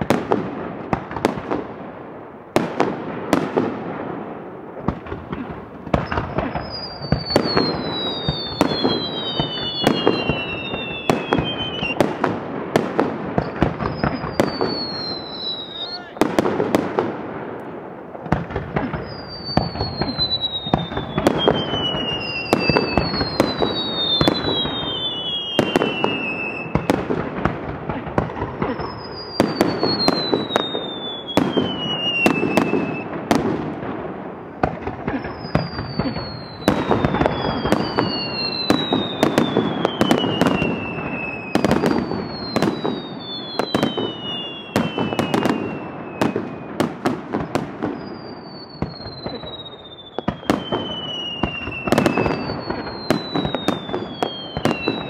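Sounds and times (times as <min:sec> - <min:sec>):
fireworks bangs and crackles: 0:00.0 - 0:55.0
falling fireworks whistles: 0:02.5 - 0:55.0.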